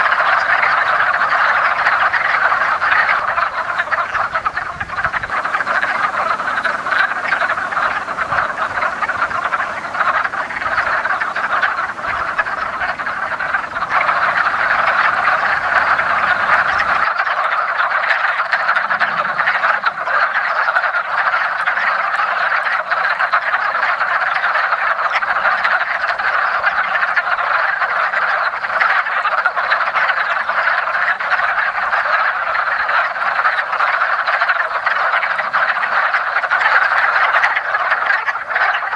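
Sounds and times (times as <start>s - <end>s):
frog chorus: 0.0s - 38.9s.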